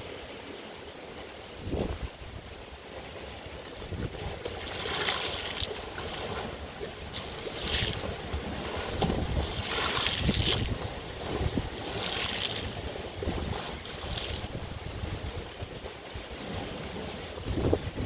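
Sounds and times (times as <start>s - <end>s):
lake waves lapping against shore: 0.0s - 18.0s
wind rumble on microphone: 1.6s - 2.7s, 3.4s - 18.0s.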